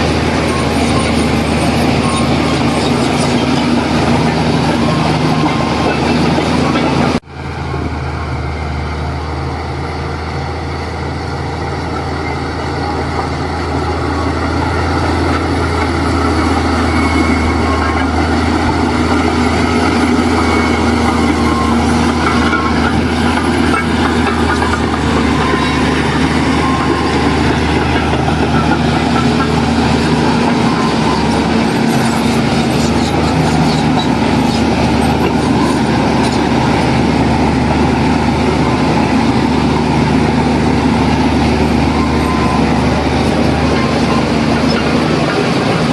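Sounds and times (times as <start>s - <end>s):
heavy diesel engine working: 0.0s - 45.9s.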